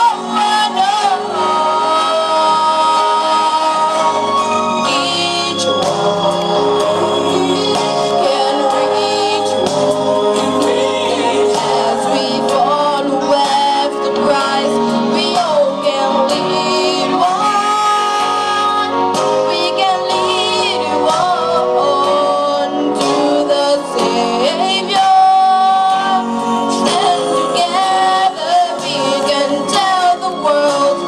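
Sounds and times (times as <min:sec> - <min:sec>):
instrumental accompaniment: 0:00.0 - 0:31.0
person singing gospel melody: 0:00.0 - 0:31.0.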